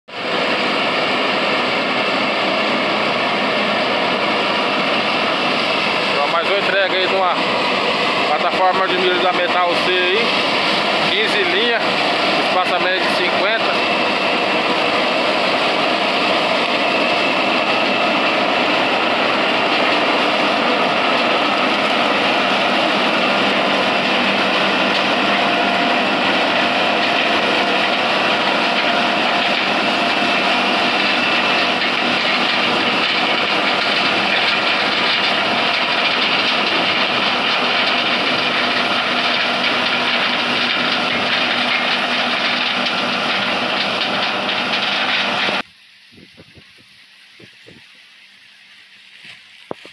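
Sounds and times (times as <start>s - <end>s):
combine harvester drone: 0.1s - 45.7s.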